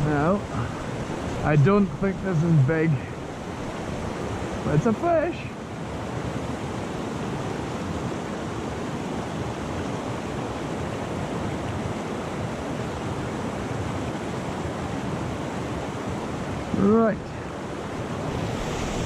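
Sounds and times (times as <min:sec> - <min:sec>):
fast-flowing river rushing: 0:00.0 - 0:19.0.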